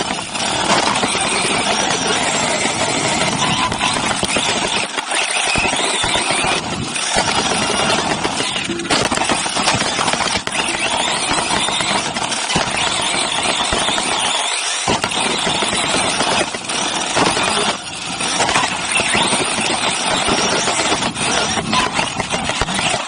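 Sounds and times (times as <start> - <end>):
wind over camera: 0.0 - 4.9, 5.6 - 23.0
chassis vibration: 0.0 - 23.0
tyres rattling on dirt: 0.0 - 23.0.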